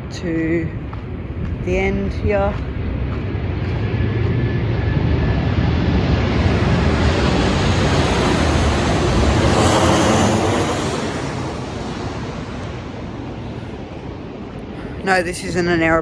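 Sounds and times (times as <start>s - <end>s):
aeroplane engine roar: 0.0s - 16.0s.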